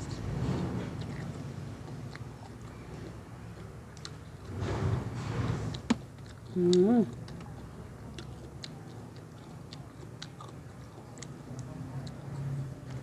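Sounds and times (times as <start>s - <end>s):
chewing crisp food: 0.0s - 4.6s, 5.6s - 13.0s.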